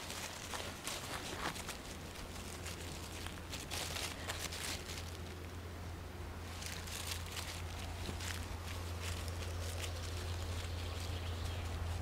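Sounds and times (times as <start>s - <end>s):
dry leaves crunching underfoot: 0.0s - 5.7s, 6.4s - 12.0s
steady low hum: 0.0s - 12.0s.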